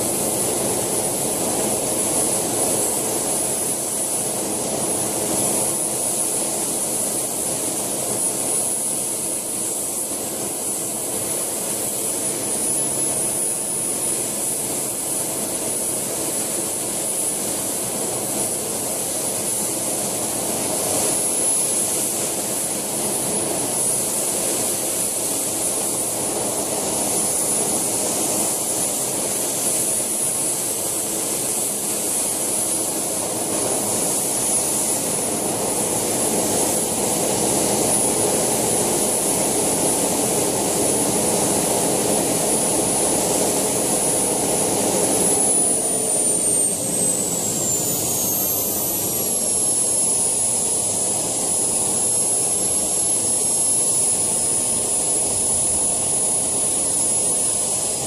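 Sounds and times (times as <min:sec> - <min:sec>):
model helicopter turbine running: 0:00.0 - 0:58.0.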